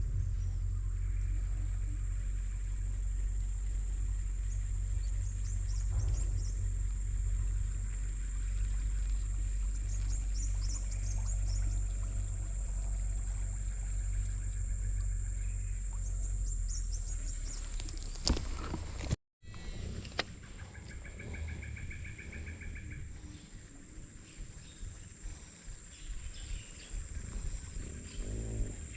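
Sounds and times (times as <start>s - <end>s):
low rumble: 0.0s - 28.9s.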